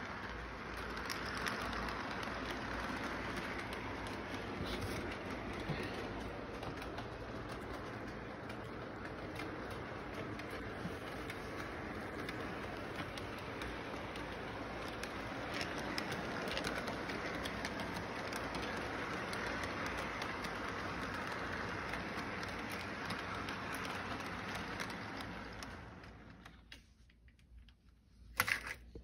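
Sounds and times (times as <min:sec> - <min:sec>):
model train rumbling rattle: 0:00.0 - 0:26.5.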